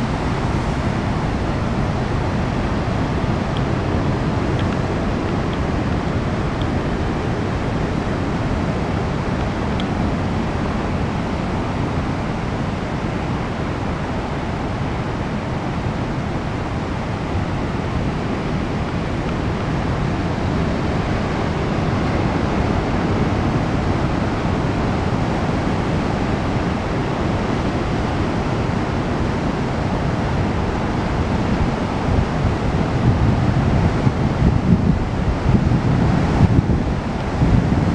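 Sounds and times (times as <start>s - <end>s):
waves breaking on beach: 0.0s - 37.9s
wind on microphone: 0.0s - 37.9s.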